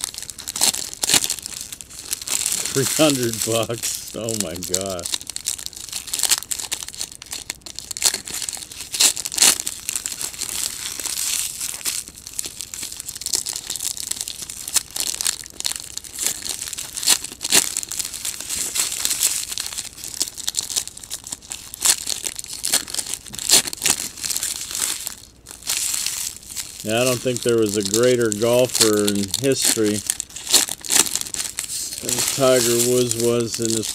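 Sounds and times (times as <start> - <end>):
foil wrappers crinkling and tearing: 0.0 - 33.9.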